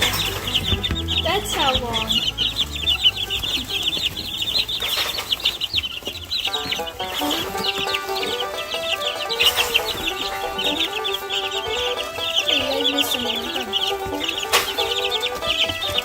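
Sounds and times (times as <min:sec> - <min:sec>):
background music: 0:00.0 - 0:16.0
chicks peeping: 0:00.0 - 0:16.0.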